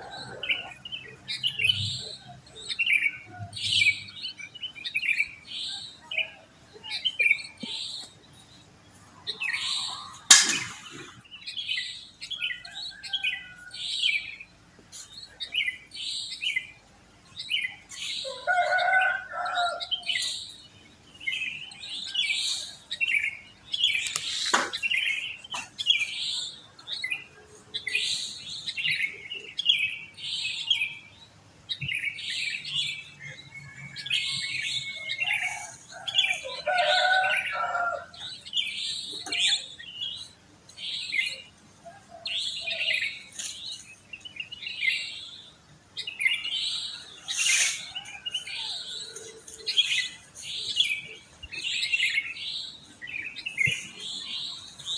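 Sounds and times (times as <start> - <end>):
bulbuls chirping in chorus: 0.0 - 54.9.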